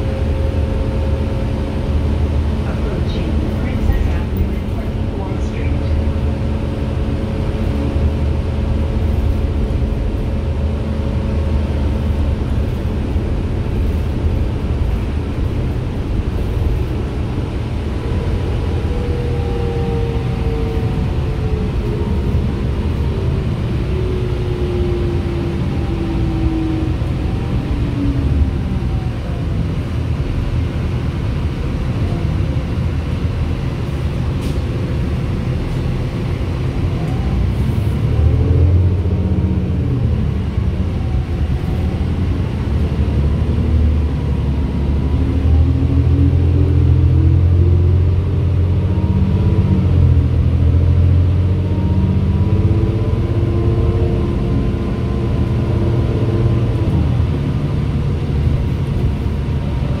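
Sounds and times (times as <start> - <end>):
bus engine rumbling: 0.0 - 60.0.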